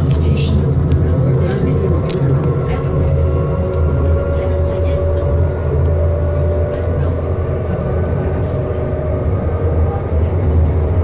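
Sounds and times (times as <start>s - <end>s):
steady high whine: 0.0s - 11.0s
train rumble inside car: 0.0s - 11.0s.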